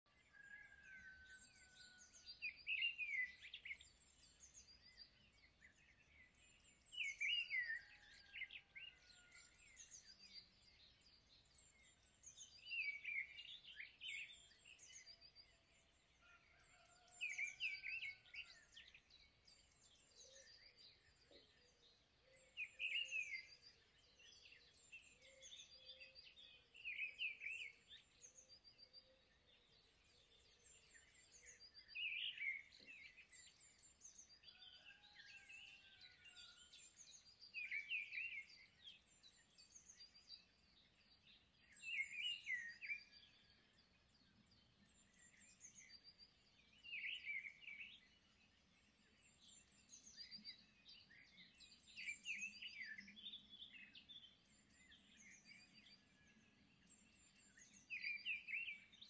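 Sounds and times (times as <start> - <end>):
bird singing chirps: 0.0 - 59.0.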